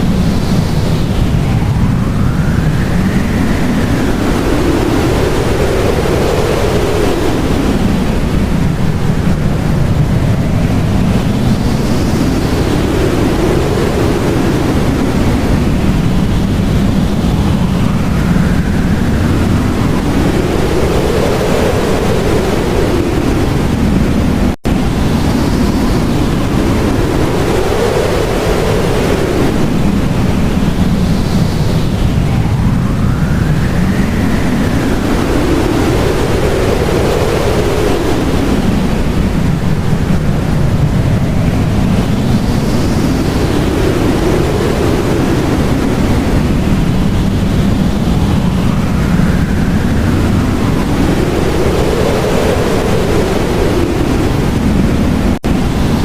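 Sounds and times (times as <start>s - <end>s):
blizzard wind howling: 0.0s - 56.0s.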